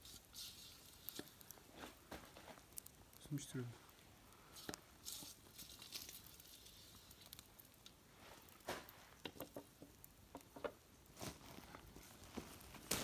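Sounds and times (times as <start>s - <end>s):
campfire crackling: 0.0s - 13.0s
fat frying in pan: 0.0s - 13.0s.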